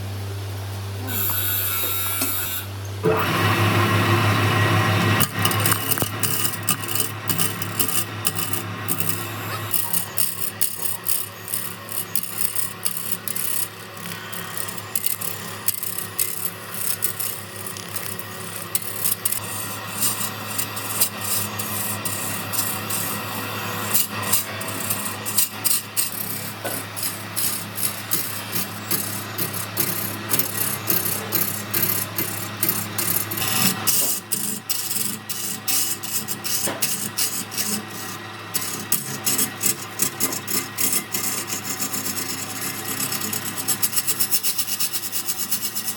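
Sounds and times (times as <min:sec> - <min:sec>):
tool scraping spinning wood: 0:01.0 - 0:45.9
wood lathe humming: 0:01.0 - 0:45.9.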